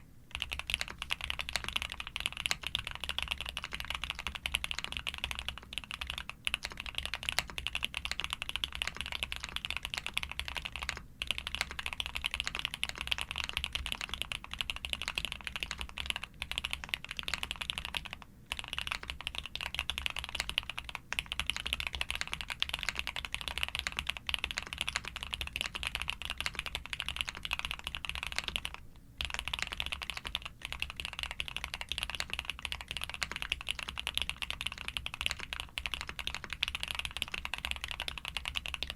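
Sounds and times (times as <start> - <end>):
fast typing on mechanical keyboard: 0.3 - 38.9.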